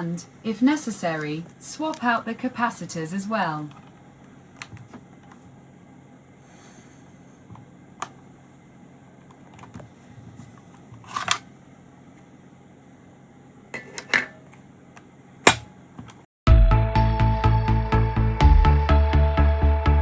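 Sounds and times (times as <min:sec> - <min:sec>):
faint steady hum: 0:00.0 - 0:16.2.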